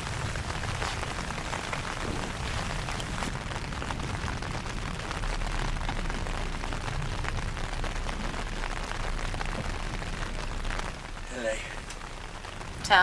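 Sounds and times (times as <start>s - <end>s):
heavy rain hissing: 0.0s - 13.0s
low rumble: 0.0s - 13.0s.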